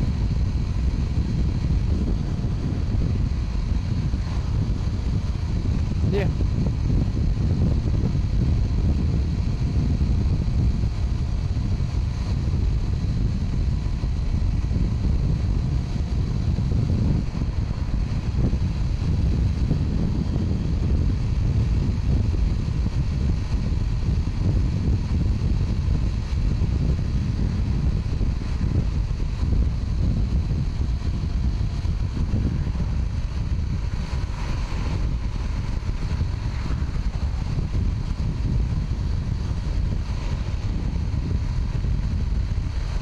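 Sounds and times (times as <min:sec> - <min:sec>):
motorcycle engine: 0:00.0 - 0:43.0
road noise: 0:00.0 - 0:43.0
wind rush on microphone: 0:00.0 - 0:43.0.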